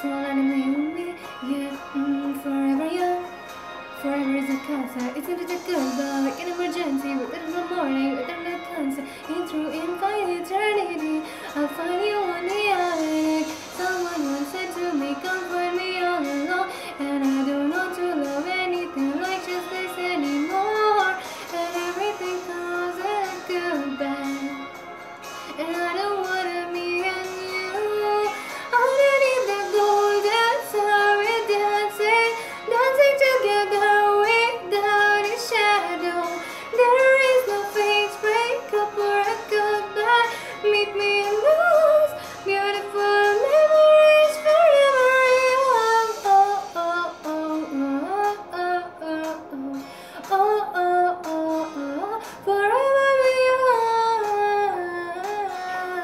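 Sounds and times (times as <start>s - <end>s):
woman singing slow melody: 0.0s - 24.8s, 25.5s - 56.0s.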